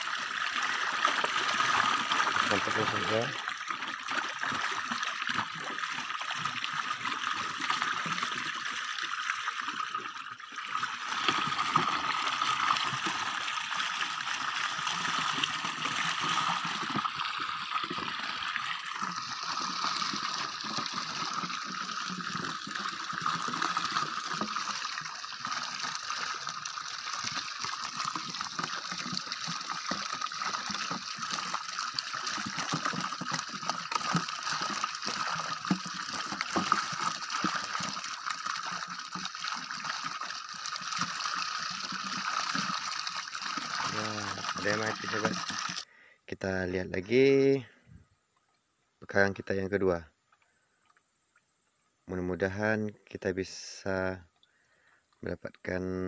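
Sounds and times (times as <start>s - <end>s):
water splashing and trickling: 0.0s - 46.0s.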